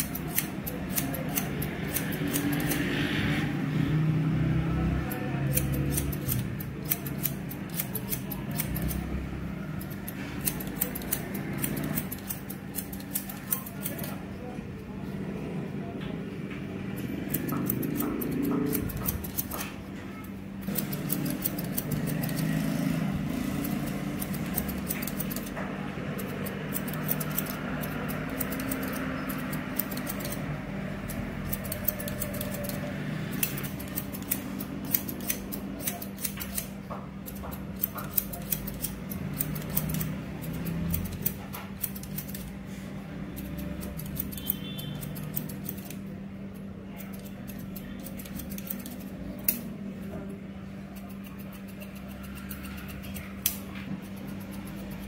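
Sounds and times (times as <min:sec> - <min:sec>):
scissors snipping hair: 0:00.0 - 0:03.0, 0:04.9 - 0:14.2, 0:17.1 - 0:19.8, 0:20.6 - 0:42.5, 0:43.4 - 0:46.1, 0:47.0 - 0:49.7, 0:50.9 - 0:55.0.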